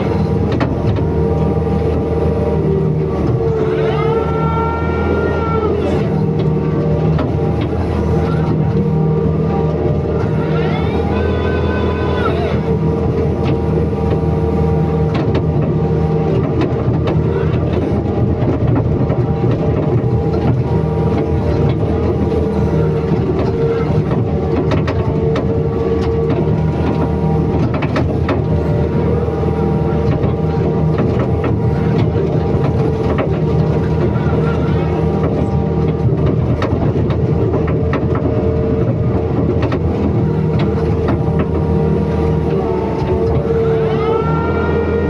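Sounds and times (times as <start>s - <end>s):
machine knocks and clanks: 0.0s - 3.8s, 5.8s - 11.1s, 12.5s - 43.8s
excavator diesel engine: 0.0s - 45.0s.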